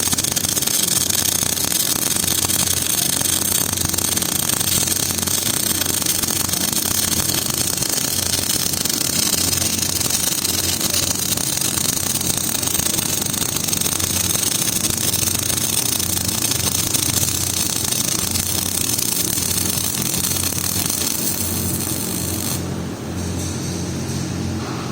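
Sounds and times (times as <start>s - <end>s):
welding arc hiss and crackle: 0.0s - 24.2s.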